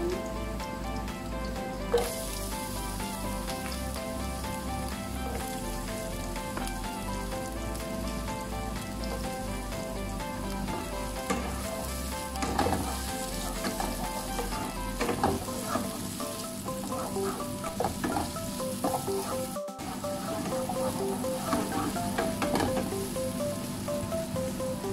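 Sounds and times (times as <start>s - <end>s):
onion and garlic sizzling in oil: 0.0s - 24.9s.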